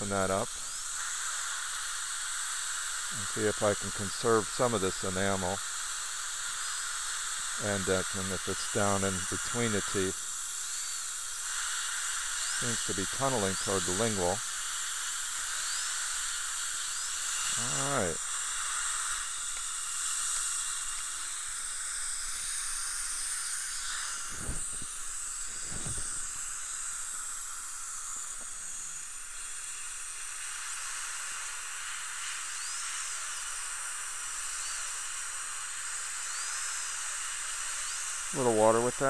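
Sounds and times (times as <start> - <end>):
dental equipment hissing: 0.0 - 39.0.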